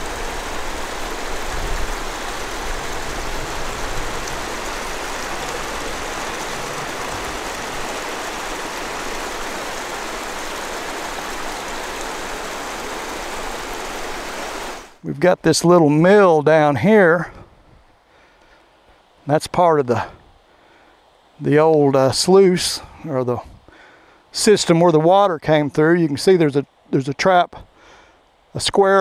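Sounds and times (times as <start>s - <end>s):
creek water rushing over rocks: 0.0s - 29.0s.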